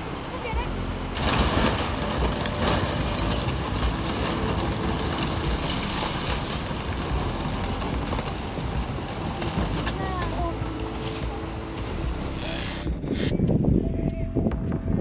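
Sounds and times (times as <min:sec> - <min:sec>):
floodwater flowing: 0:00.0 - 0:13.4
deep rumble: 0:00.0 - 0:15.0.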